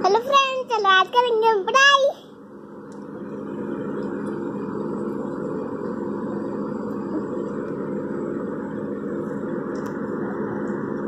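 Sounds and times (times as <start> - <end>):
motor drone with low hum: 0.0 - 11.0.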